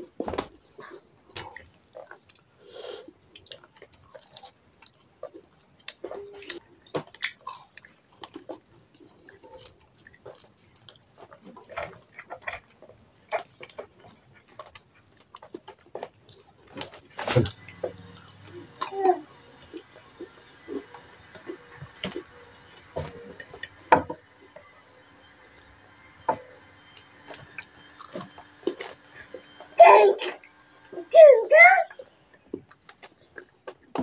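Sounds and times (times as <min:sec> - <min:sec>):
chewing and crunching: 0:00.7 - 0:29.6, 0:32.0 - 0:34.0.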